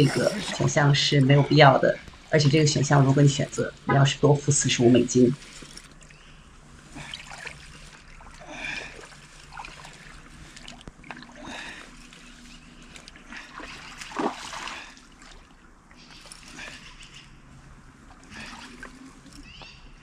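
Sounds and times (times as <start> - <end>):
water splashing and trickling: 0.0 - 20.0.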